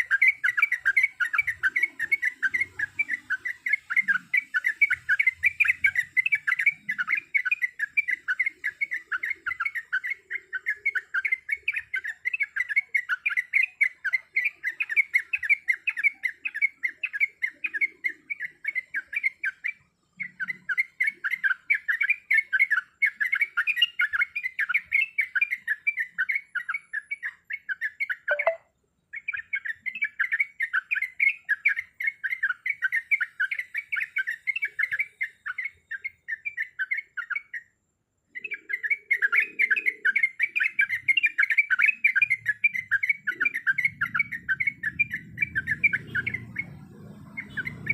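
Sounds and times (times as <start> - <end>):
bulbul chirping: 0.0 - 37.7, 38.4 - 47.9.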